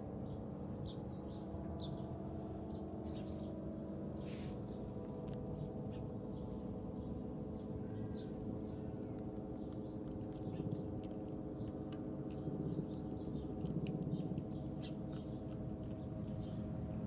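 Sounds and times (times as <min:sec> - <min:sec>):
steady droning hum: 0:00.0 - 0:17.0.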